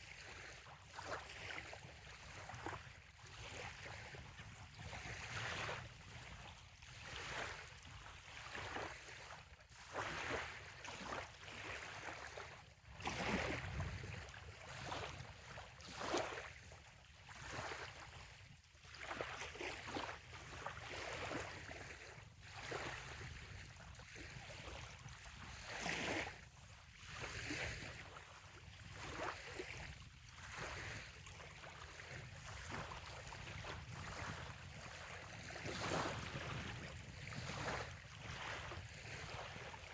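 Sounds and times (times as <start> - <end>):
water lapping on sandy shore: 0.0 - 39.9.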